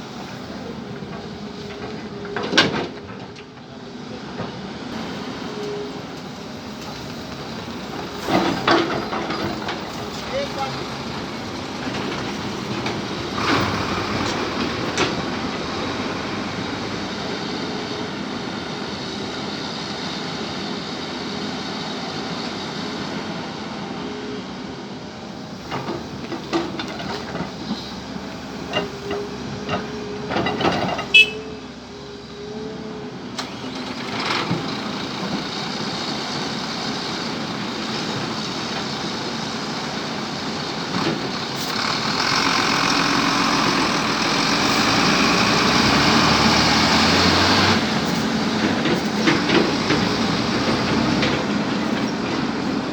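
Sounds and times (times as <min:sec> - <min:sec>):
excavator engine running: 0:00.0 - 0:21.2, 0:25.1 - 0:52.9.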